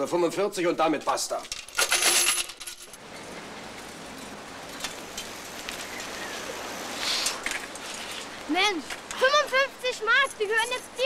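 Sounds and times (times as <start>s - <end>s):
bicycles rolling over cobblestones: 1.0s - 10.9s.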